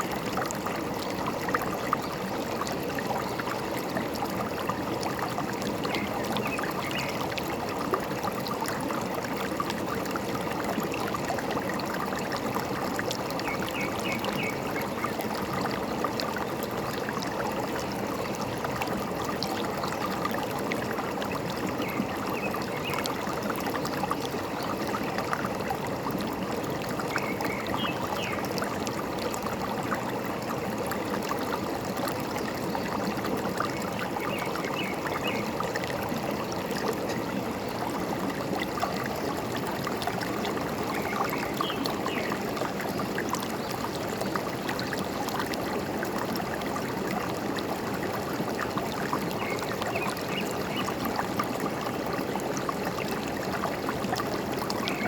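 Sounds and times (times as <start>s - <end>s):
stream trickling and gurgling: 0.0s - 55.0s.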